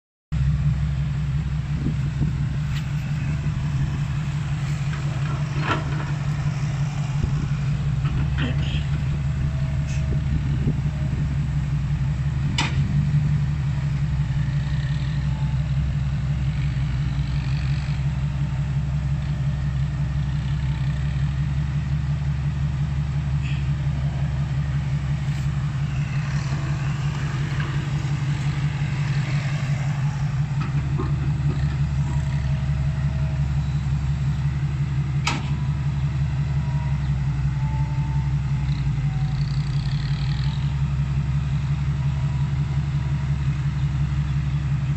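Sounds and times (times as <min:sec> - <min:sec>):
excavator diesel engine droning: 0:00.4 - 0:44.9.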